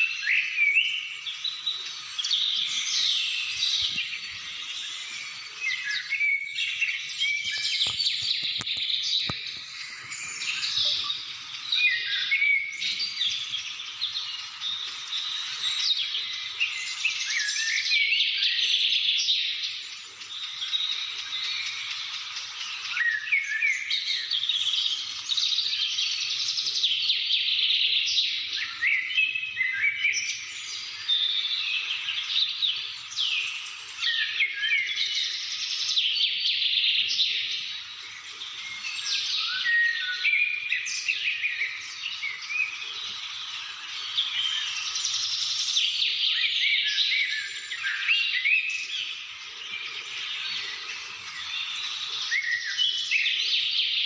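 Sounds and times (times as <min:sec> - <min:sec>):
chorus of birds chirping: 0:00.0 - 0:54.0.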